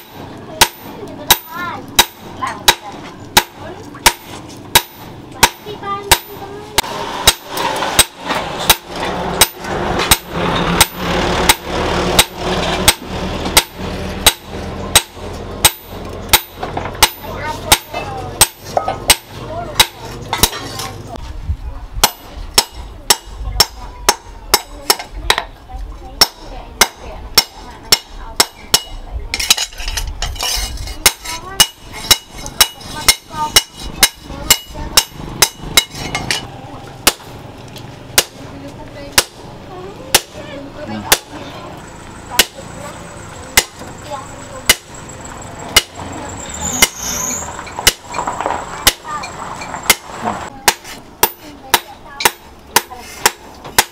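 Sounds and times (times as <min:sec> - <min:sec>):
hammer striking hot steel on anvil: 0:00.0 - 0:20.8, 0:22.0 - 0:25.5, 0:26.2 - 0:37.3, 0:42.3 - 0:42.6, 0:43.6 - 0:43.9, 0:44.6 - 0:45.1, 0:45.7 - 0:46.1, 0:46.8 - 0:53.9.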